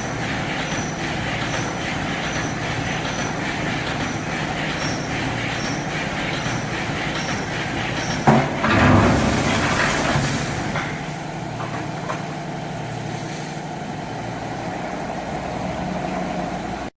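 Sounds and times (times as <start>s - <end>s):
machine humming and hissing: 0.0s - 16.9s.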